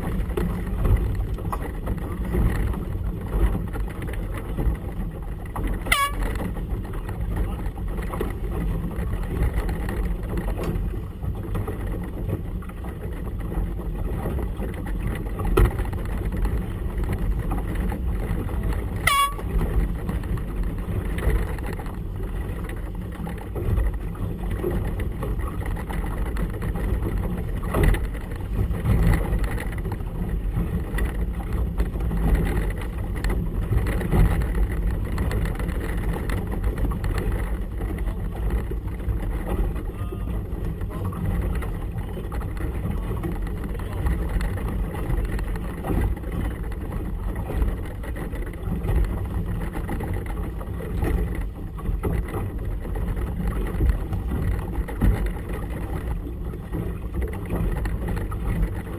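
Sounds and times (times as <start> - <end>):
low rumble of wind and water: 0.0 - 58.9
motorboat engine running: 0.0 - 58.9.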